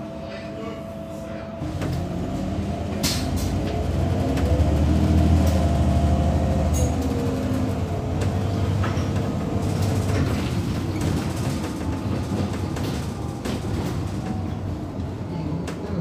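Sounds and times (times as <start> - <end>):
transit vehicle motor and rolling rumble: 1.6 - 16.0.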